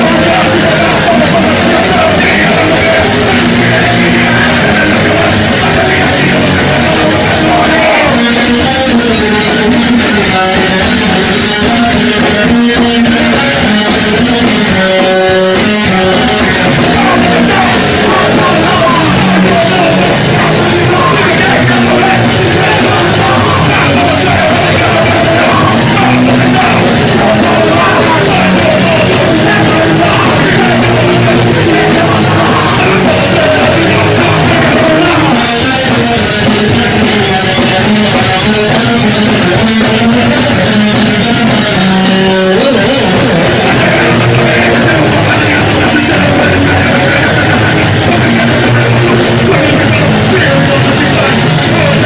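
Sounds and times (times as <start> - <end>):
electric guitar: 0.0 - 52.0
person singing: 0.0 - 52.0
punk rock band playing live: 0.0 - 52.0.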